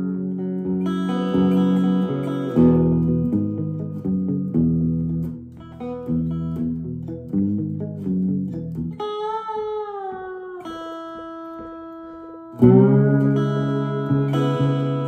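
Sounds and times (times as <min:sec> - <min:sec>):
electric slide guitar: 0:00.0 - 0:15.0.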